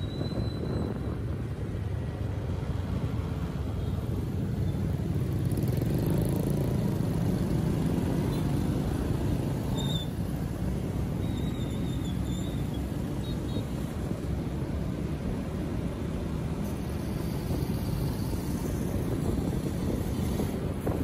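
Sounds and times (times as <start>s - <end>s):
vehicle rumbling on road: 0.0s - 21.0s.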